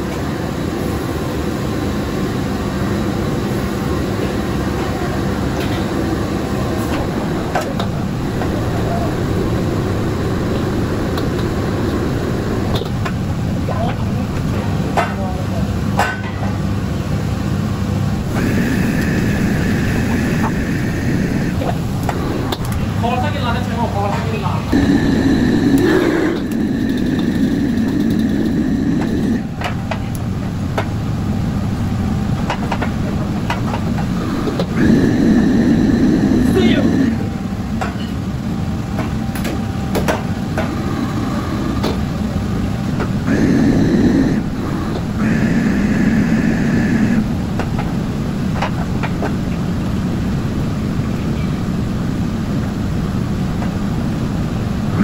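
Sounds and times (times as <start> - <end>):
wok burner and extractor roar: 0.0 - 55.0.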